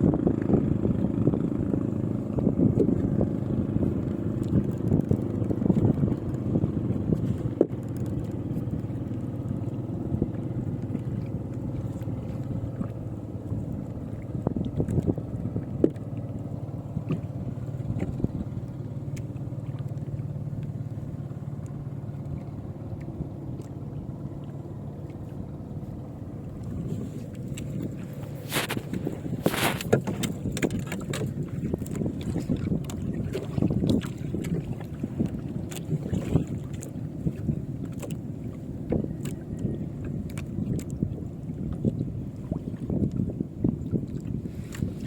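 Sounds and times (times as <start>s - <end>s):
motor droning: 0.0s - 45.0s.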